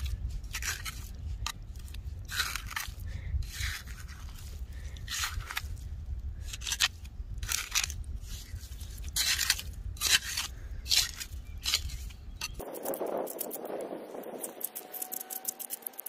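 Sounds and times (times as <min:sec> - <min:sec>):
digging tool scraping wet sand: 0:00.0 - 0:05.8, 0:06.4 - 0:16.0.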